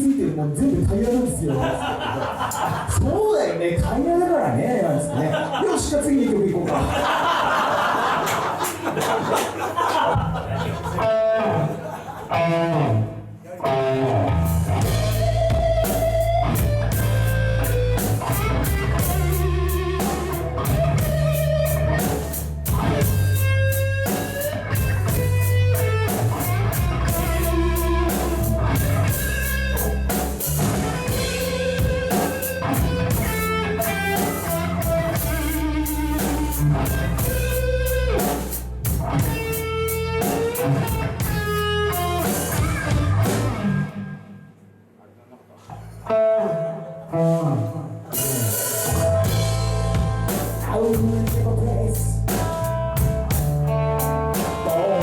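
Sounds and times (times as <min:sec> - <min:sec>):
rock band playing live: 0:04.9 - 0:44.4, 0:46.1 - 0:55.0.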